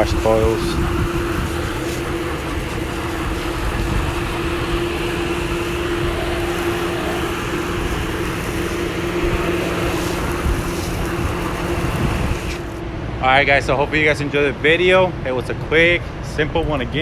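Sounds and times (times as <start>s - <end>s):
air conditioner humming: 0.0s - 16.9s
hiss and rumble: 0.0s - 17.0s.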